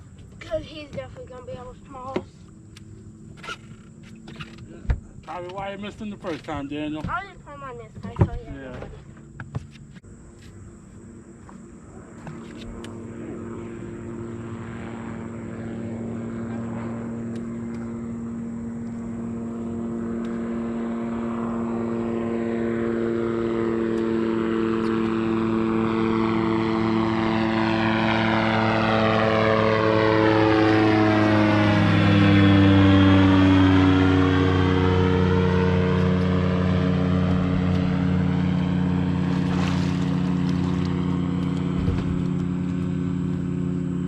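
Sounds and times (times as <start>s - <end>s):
propeller airplane engine drone: 0.0s - 44.0s.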